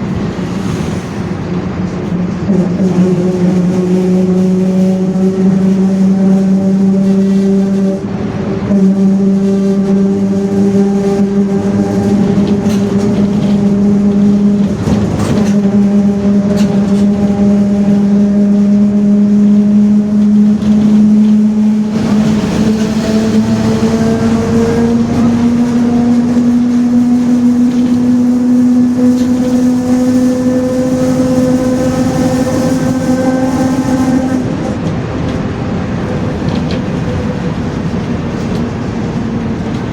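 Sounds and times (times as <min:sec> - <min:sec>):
bus differential whine: 0:00.0 - 0:39.9.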